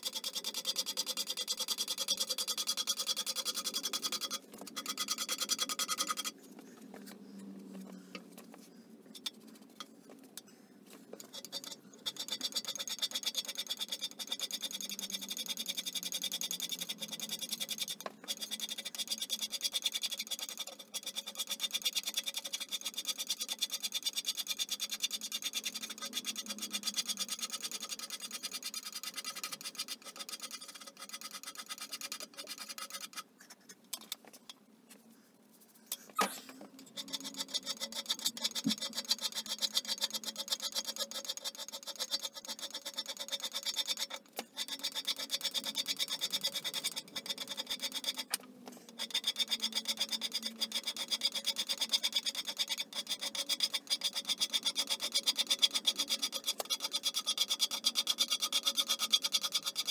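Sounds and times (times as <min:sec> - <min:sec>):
hand scraper scraping metal: 0:00.0 - 0:08.2, 0:11.1 - 0:34.2, 0:35.9 - 0:59.9.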